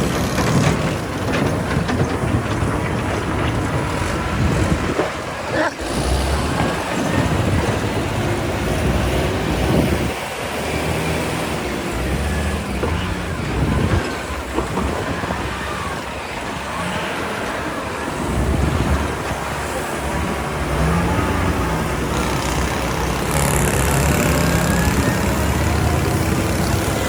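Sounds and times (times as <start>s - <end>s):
excavator diesel engine rumbling: 0.0s - 27.0s.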